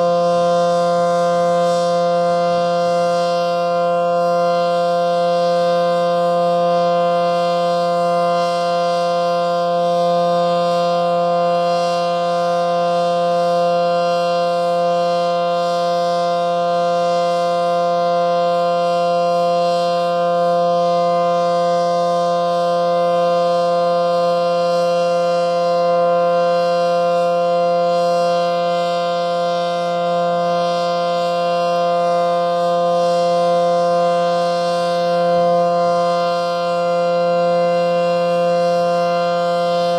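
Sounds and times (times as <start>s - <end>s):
electromechanical warning siren: 0.0s - 39.9s.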